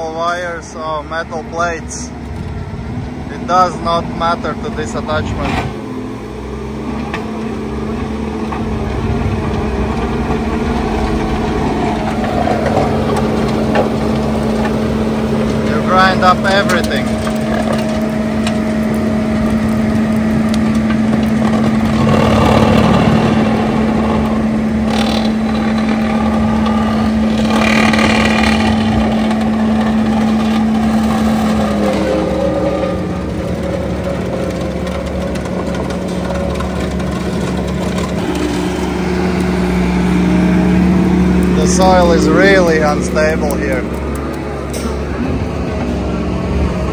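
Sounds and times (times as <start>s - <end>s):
engine and drive hum: 0.0s - 46.9s
stump grinder grinding: 0.0s - 46.9s.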